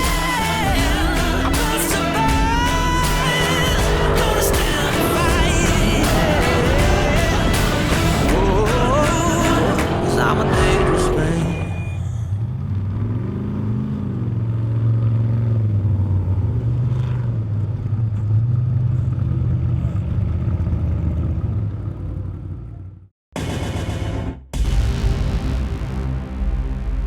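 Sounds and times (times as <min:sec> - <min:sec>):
truck engine running at speed: 0:00.0 - 0:24.3.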